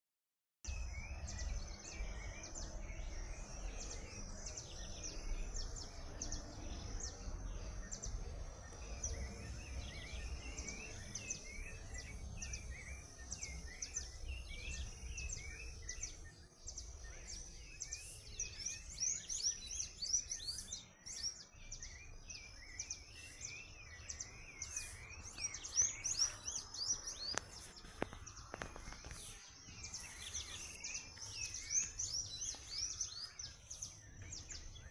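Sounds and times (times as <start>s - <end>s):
bird chirps: 0.7s - 34.9s.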